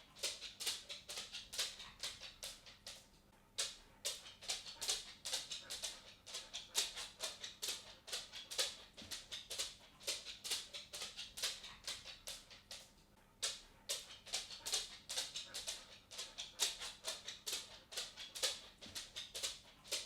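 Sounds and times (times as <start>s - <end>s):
dog claws clicking on wooden floor: 0.0s - 20.0s.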